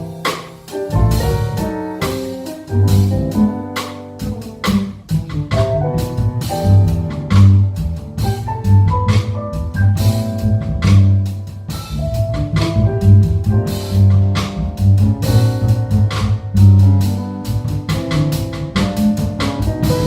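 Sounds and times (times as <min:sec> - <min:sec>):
bass low notes: 0:00.0 - 0:20.0
jazz piano: 0:00.0 - 0:20.0.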